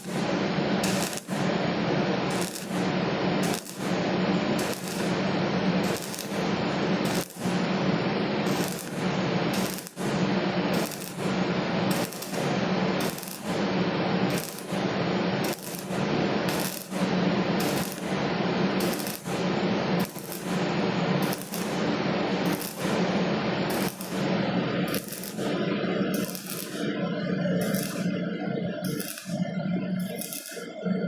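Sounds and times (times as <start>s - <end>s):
welding arc crackling and sizzling: 0.0s - 31.0s.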